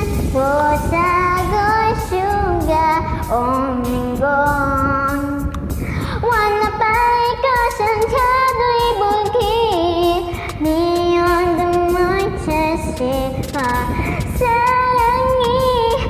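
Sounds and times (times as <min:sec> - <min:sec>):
girl singing: 0:00.0 - 0:16.0
karaoke backing track: 0:00.0 - 0:16.0.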